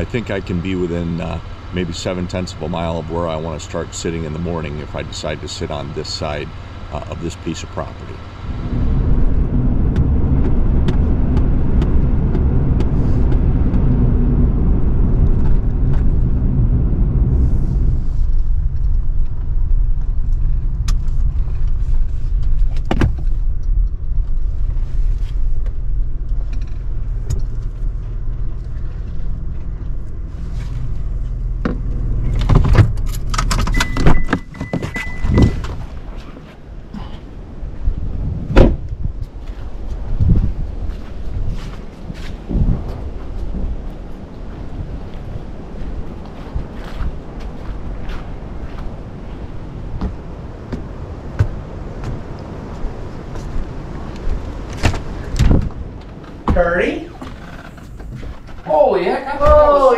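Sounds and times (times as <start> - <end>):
engine and tyre hum: 0.0 - 59.8
low road rumble: 0.0 - 59.9.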